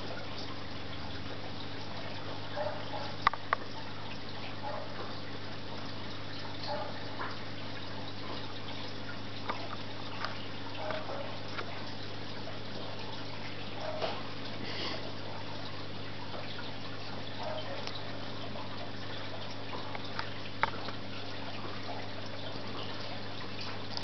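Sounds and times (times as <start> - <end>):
aquarium filter humming: 0.0 - 24.0
water dripping: 0.0 - 24.0.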